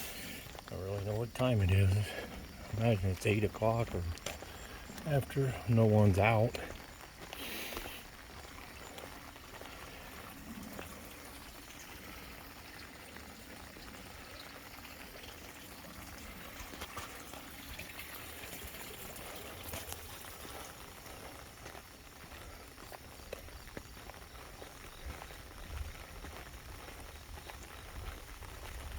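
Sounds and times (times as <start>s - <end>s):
light rain falling: 0.0s - 28.9s.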